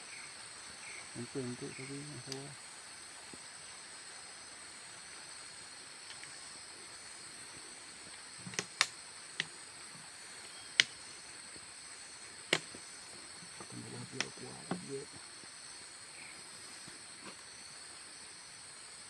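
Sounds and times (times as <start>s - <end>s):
insects droning: 0.0s - 19.0s
hiss: 0.9s - 19.0s.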